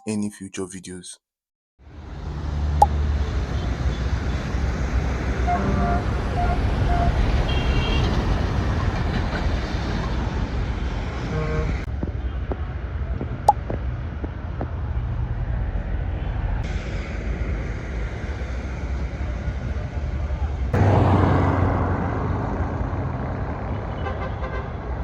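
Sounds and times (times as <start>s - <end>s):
street traffic noise: 1.8s - 25.0s.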